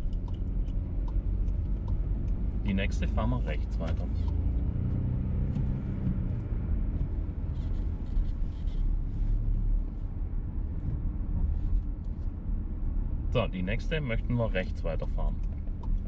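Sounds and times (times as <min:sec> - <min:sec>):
car cabin engine and road rumble: 0:00.0 - 0:16.0.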